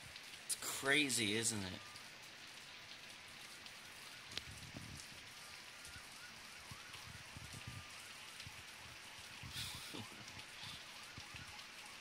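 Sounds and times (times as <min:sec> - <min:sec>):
rain falling: 0:00.0 - 0:12.0
water dripping: 0:00.0 - 0:12.0.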